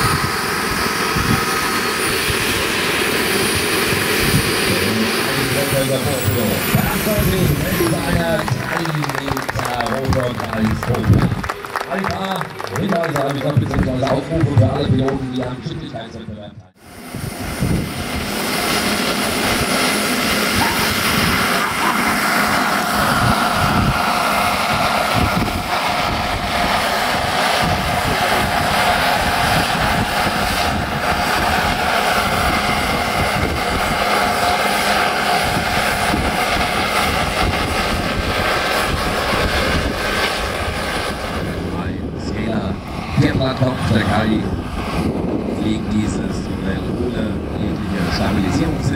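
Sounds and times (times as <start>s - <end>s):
rotor noise: 0.0s - 16.0s, 16.9s - 48.9s
model helicopter whine: 0.0s - 16.2s, 16.8s - 48.9s.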